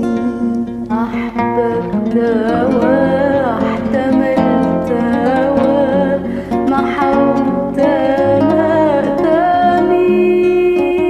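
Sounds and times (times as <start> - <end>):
acoustic guitar: 0.0 - 11.0
woman singing a hymn: 0.0 - 11.0.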